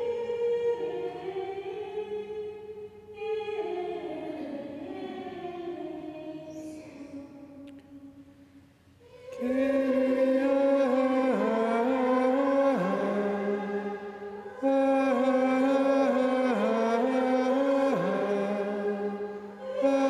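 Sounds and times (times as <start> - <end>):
plainchant singing: 0.0 - 8.1, 9.0 - 20.0.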